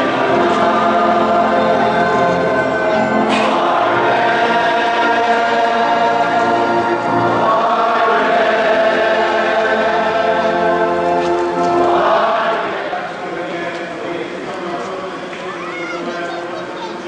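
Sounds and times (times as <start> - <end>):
choir singing a hymn: 0.0 - 15.3.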